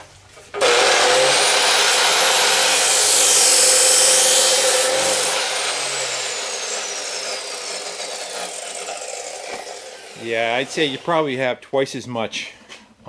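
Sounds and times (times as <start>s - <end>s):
chop saw cutting metal pipe: 0.6s - 11.3s
saw blade spinning down: 0.6s - 11.3s.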